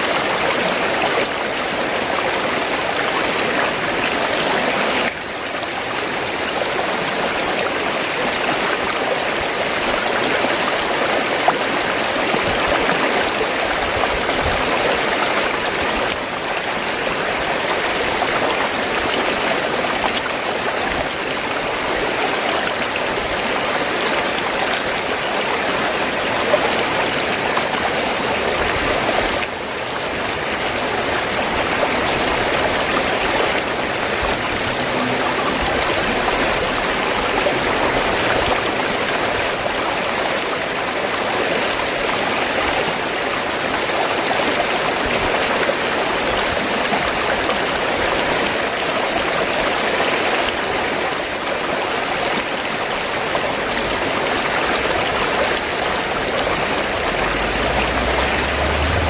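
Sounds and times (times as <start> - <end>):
stream gurgling over rocks: 0.0 - 59.0.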